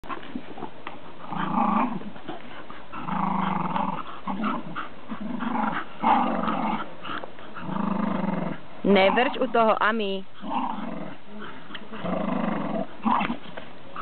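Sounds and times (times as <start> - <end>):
dogs play-growling: 0.0 - 14.0.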